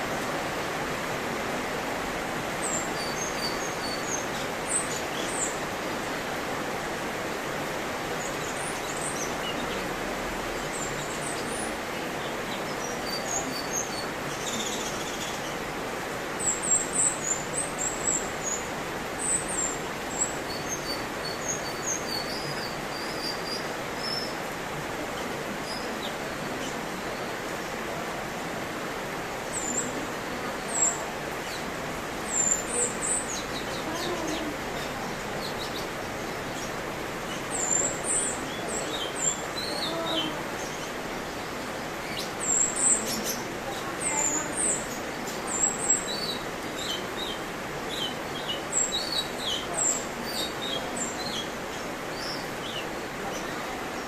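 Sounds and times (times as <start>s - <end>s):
background hiss: 0.0s - 54.0s.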